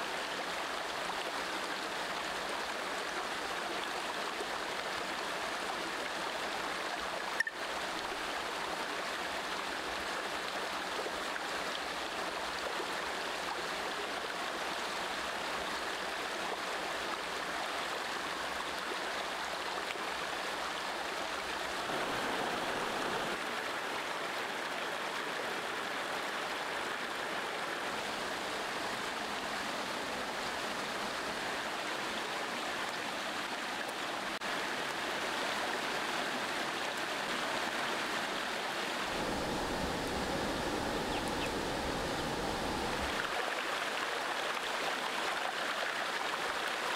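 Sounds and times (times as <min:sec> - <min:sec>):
stream running over rocks: 0:00.0 - 0:46.9.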